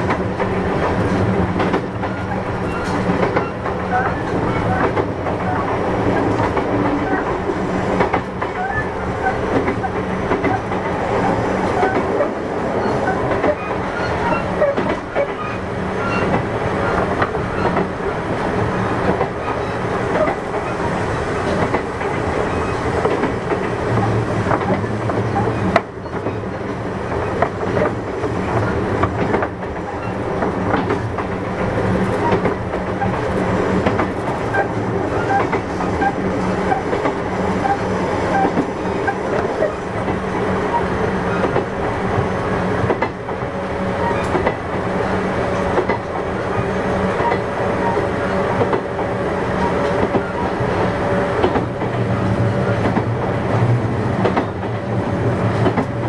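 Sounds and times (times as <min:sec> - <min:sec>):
train motors and wheels humming: 0:00.0 - 0:56.0
wheels clacking over rail joints: 0:00.0 - 0:56.0.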